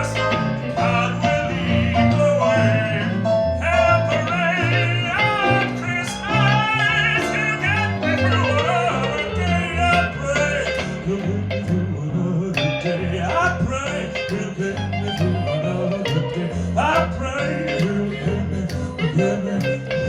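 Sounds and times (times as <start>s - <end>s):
band playing: 0.0s - 18.4s
lead guitar bending notes: 0.0s - 20.0s.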